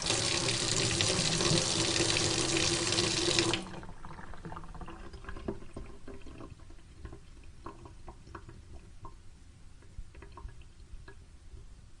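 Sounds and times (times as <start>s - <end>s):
water dripping into a sink: 0.0s - 9.2s, 9.8s - 11.7s
faint water trickle: 0.0s - 11.7s.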